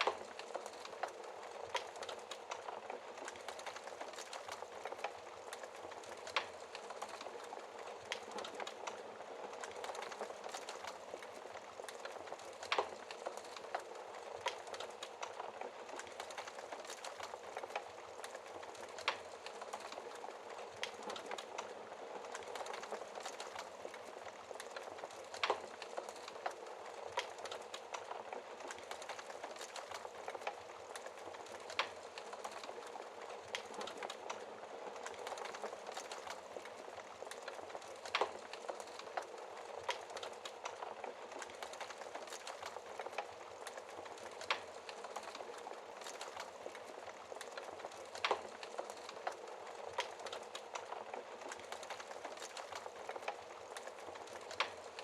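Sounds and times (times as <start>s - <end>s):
burning logs popping: 0.0s - 55.0s
wood fire crackling: 0.0s - 55.0s.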